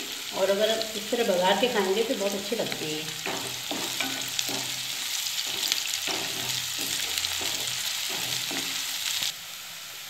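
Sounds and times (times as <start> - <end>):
spatula stirring in a wok: 0.0 - 9.4
onion sizzling in hot oil: 0.0 - 10.0.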